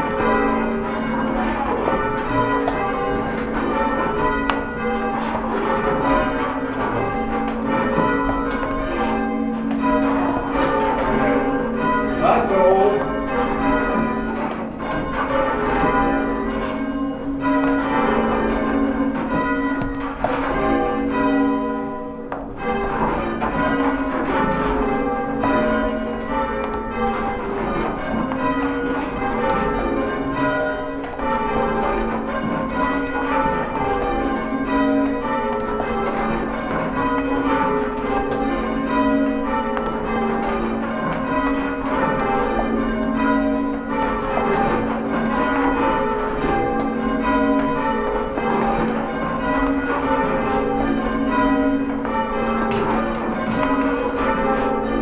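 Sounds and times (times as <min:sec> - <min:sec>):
church bells ringing: 0:00.0 - 0:55.0.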